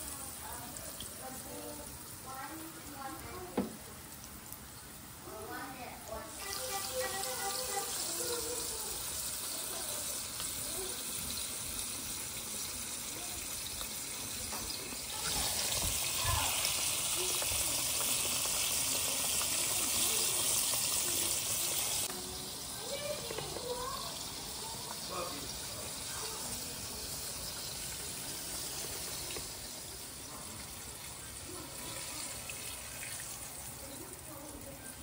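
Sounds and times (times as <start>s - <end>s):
deep-frying sizzle: 0.0s - 35.0s.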